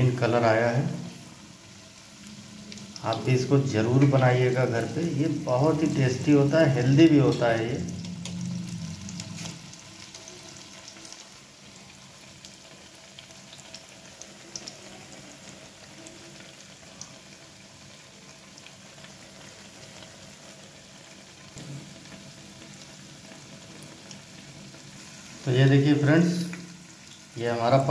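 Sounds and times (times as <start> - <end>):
food deep-frying in hot oil: 0.0 - 27.9
oil popping and crackling: 2.2 - 25.3.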